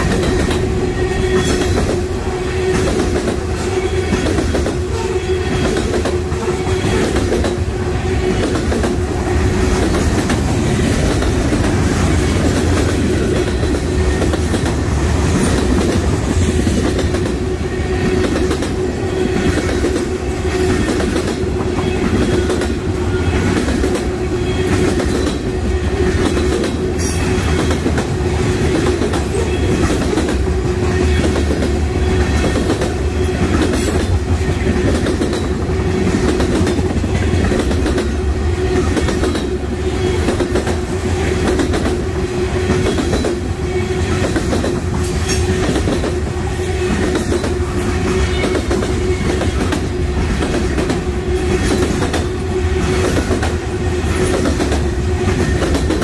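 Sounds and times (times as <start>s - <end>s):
train rumble: 0.0s - 56.0s
train wheels clicking on rail joints: 0.0s - 56.0s.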